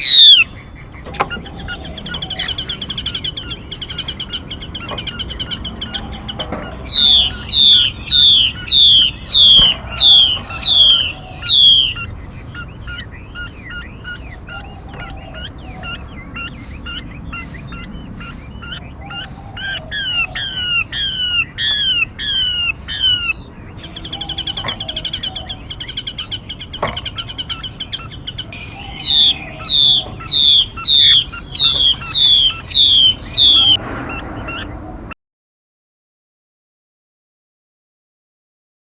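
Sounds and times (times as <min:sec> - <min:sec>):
downward-sweeping bird whistles: 0:00.0 - 0:00.6, 0:01.2 - 0:26.4, 0:27.4 - 0:34.7
bird chirps and trills: 0:00.0 - 0:35.1.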